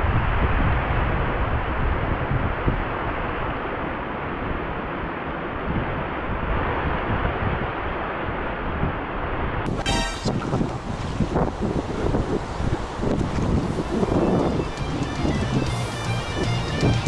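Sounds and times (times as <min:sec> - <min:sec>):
wind buffeting microphone: 0:00.0 - 0:17.0
river rushing: 0:02.9 - 0:17.0.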